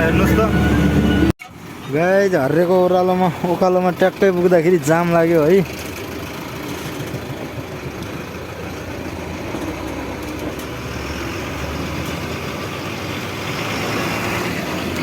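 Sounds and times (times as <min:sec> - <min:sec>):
truck diesel engine idling: 0:00.0 - 0:13.7.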